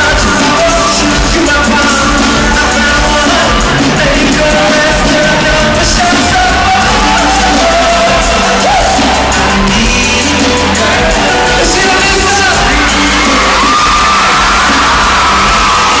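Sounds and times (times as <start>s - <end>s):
live band playing: 0.0s - 16.0s
man singing into microphone: 0.0s - 16.0s.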